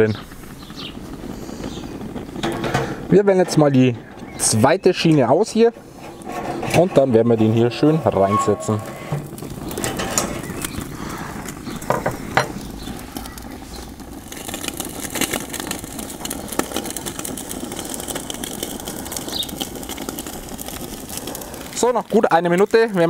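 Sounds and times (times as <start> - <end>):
gas burner rushing: 0.0 - 23.0
steak sizzling: 0.0 - 23.0.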